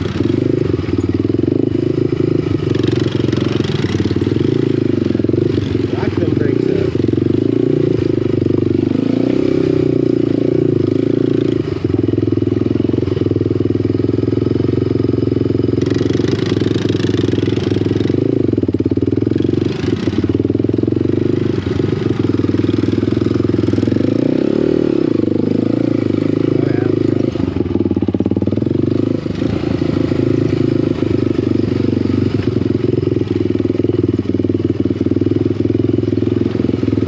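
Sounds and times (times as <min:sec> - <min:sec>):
off-road vehicle engine running: 0:00.0 - 0:37.0.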